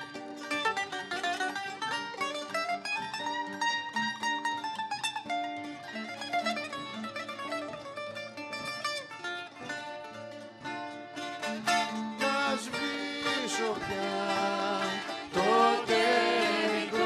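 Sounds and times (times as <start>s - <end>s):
bouzouki playing: 0.0s - 17.0s
guitar accompaniment: 0.0s - 17.0s.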